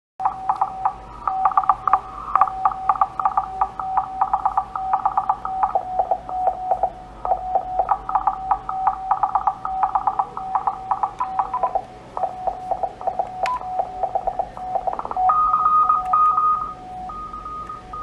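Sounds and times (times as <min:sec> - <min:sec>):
higher keyed tone: 0:00.2 - 0:18.0
morse code beeping tone: 0:00.2 - 0:18.0.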